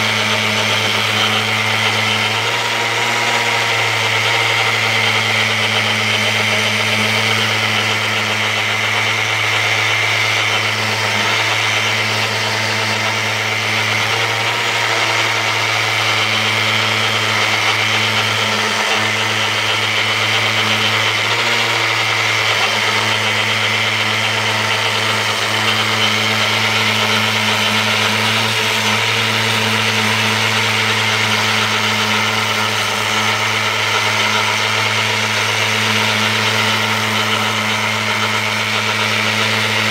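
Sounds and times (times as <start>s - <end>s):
sander sanding wood: 0.0s - 39.9s.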